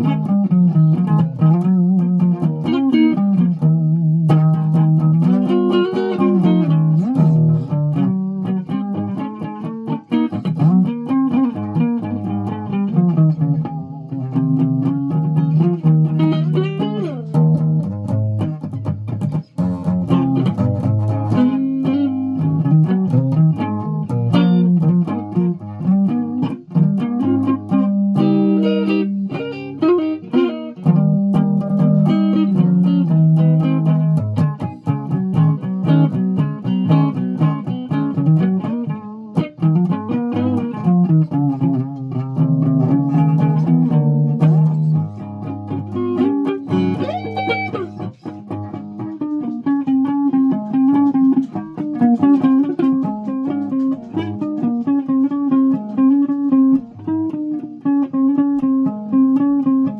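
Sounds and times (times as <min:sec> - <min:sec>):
plucked guitar melody: 0:00.0 - 0:59.9.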